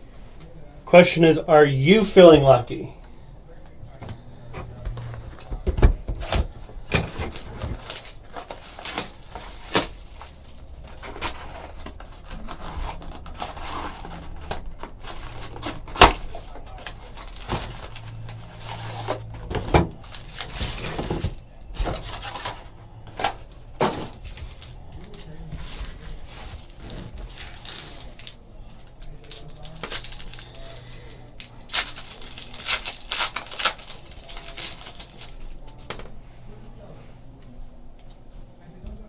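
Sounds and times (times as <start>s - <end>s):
faint low hum: 0.0s - 39.0s
cards being opened and handled: 4.6s - 36.1s.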